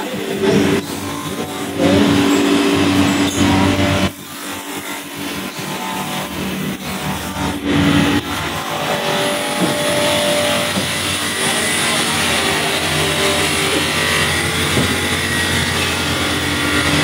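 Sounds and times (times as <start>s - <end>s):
polishing machines droning: 0.0s - 17.0s.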